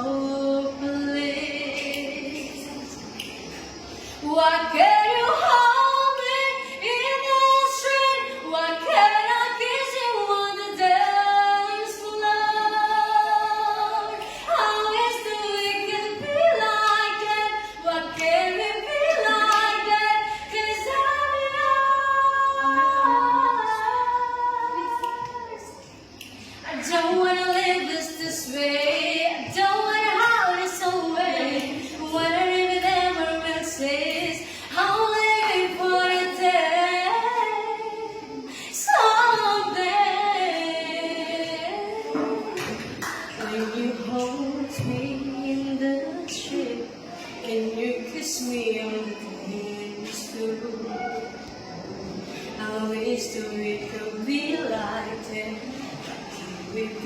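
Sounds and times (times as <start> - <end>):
woman singing a cappella: 0.0 - 51.6, 52.4 - 57.0.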